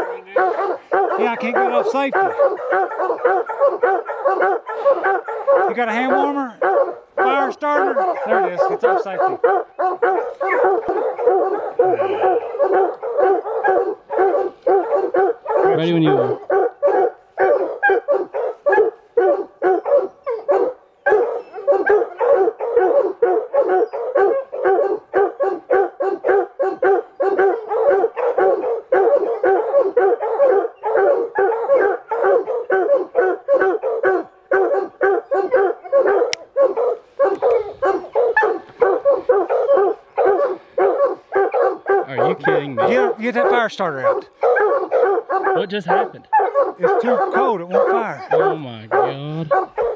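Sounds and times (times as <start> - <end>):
hounds barking: 0.0 - 49.9.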